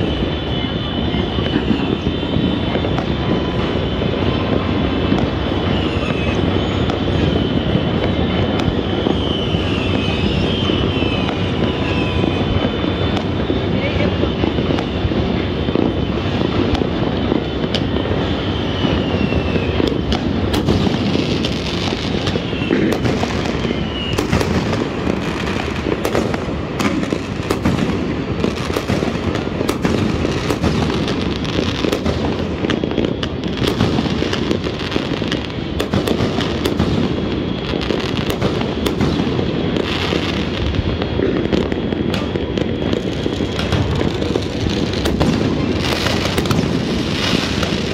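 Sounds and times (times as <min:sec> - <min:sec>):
falling firework whistles: 0:00.0 - 0:47.9
fireworks crackling and banging: 0:00.0 - 0:47.9.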